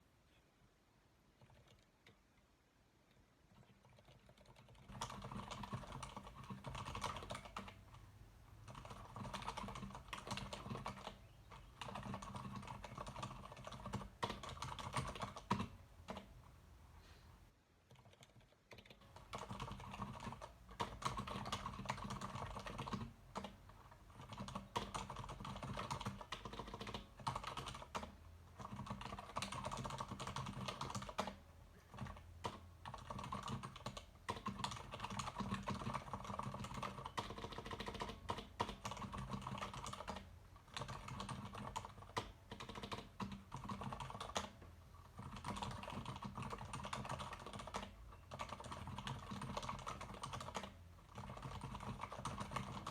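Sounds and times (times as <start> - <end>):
mechanical keyboard typing: 1.4 - 2.2, 3.5 - 16.3, 17.9 - 52.9.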